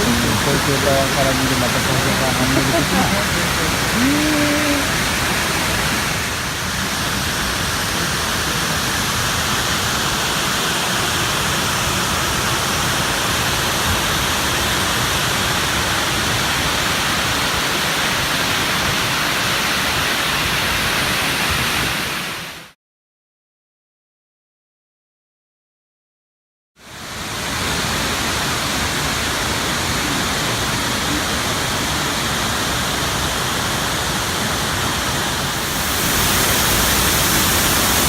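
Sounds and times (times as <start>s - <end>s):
waterfall rushing: 0.0s - 22.5s, 26.9s - 38.0s.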